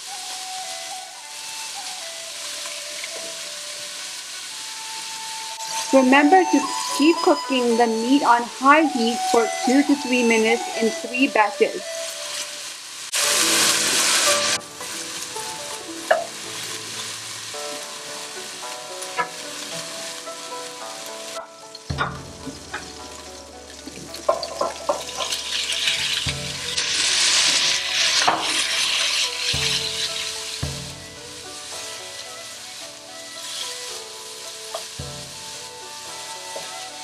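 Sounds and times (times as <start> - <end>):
meat sizzling in hot oil: 0.0 - 37.0
spatula scraping wok: 2.0 - 37.0.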